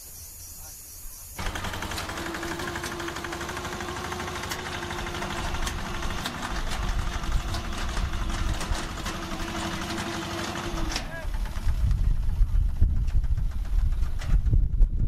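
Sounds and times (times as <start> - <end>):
small tractor engine chugging: 1.4 - 14.8.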